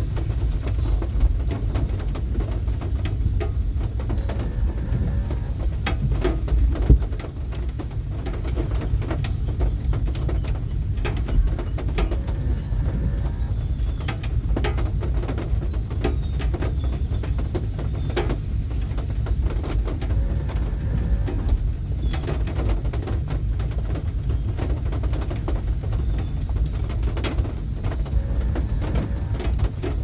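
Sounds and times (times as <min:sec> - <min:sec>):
steady low rumble: 0:00.0 - 0:08.3, 0:09.0 - 0:15.2, 0:18.6 - 0:24.3, 0:25.5 - 0:30.0
rain falling: 0:00.0 - 0:30.0.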